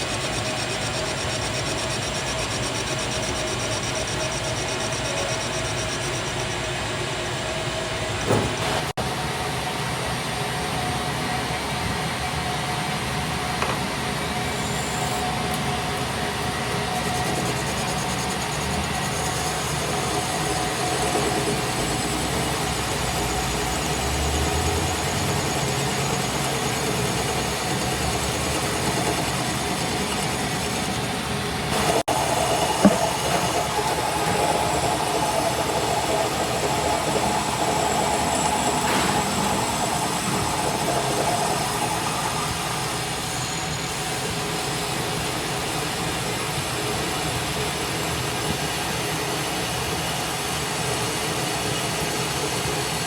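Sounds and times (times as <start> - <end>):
workshop machine running: 0.0 - 53.0.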